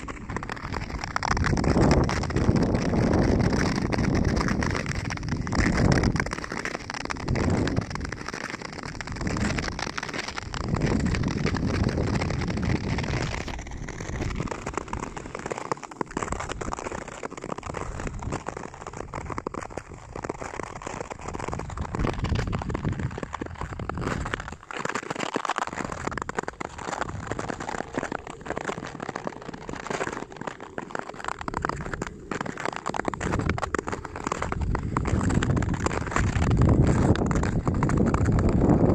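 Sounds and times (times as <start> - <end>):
skate blades scraping on snowy ice: 0.0 - 38.9.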